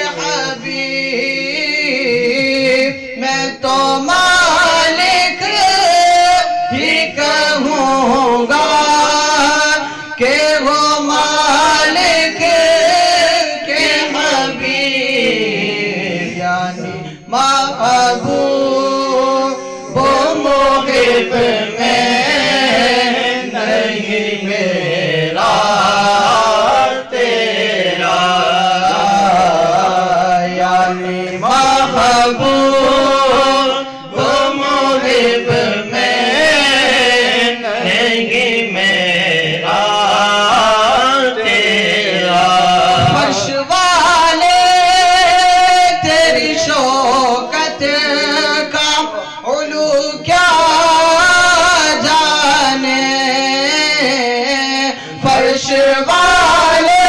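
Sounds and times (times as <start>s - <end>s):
man chanting into a microphone: 0.0s - 57.0s.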